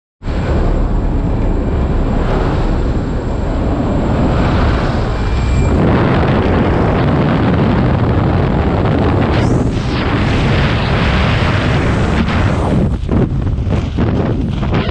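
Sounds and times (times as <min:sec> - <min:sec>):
aircraft engine: 0:00.2 - 0:14.9
wind rushing: 0:00.2 - 0:14.9.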